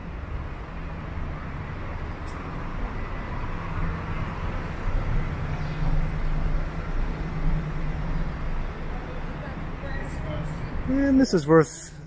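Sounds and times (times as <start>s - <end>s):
road noise: 0.0s - 12.0s
vehicle engines rumbling: 0.0s - 12.0s.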